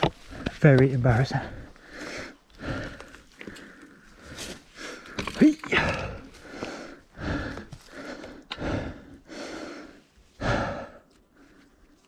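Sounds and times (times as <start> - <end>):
person breathing heavily: 1.4 - 12.0.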